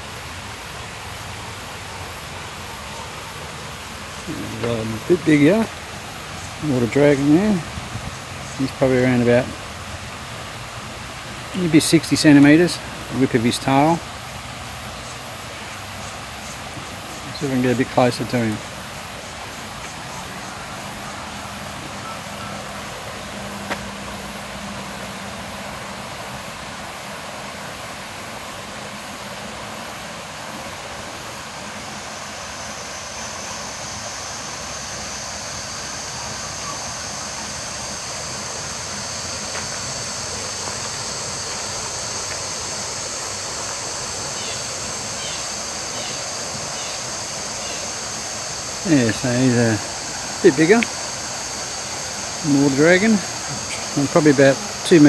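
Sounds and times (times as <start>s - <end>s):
background hiss: 0.0s - 55.0s
insect buzzing: 0.0s - 55.0s
insect chirping: 0.0s - 55.0s.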